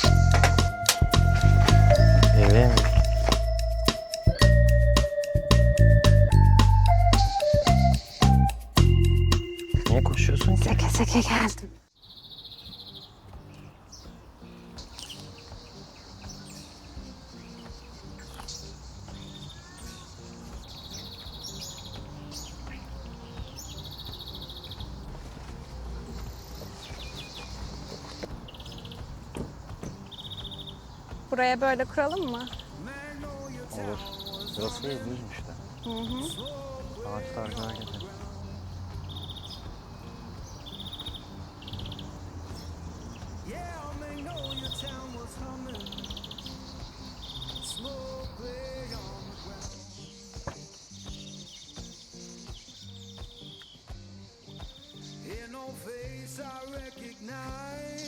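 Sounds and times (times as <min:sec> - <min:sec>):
bird trills: 0:00.0 - 0:25.2, 0:25.9 - 0:55.4
birds chirping: 0:00.0 - 0:58.0
soft background music: 0:00.0 - 0:58.0.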